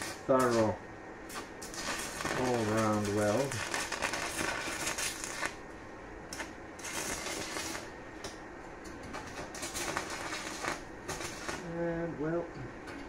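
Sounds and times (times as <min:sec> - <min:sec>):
welding arc crackling: 0:00.0 - 0:12.4.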